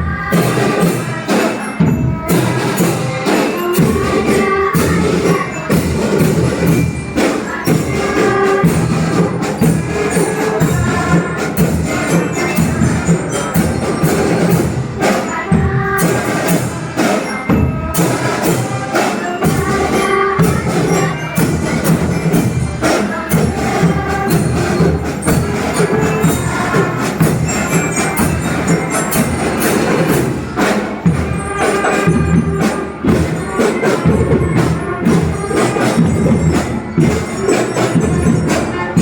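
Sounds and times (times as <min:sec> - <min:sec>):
children's choir singing: 0:00.0 - 0:39.0
instrumental accompaniment: 0:00.0 - 0:39.0
percussion beat: 0:00.0 - 0:39.0.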